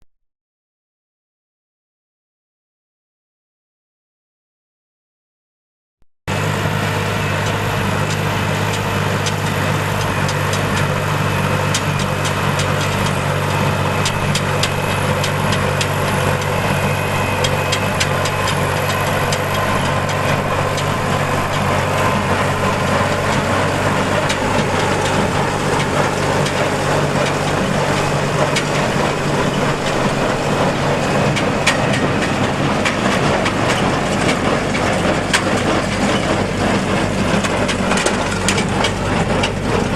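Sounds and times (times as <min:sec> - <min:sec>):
tractor engine running: 0:06.3 - 0:39.9.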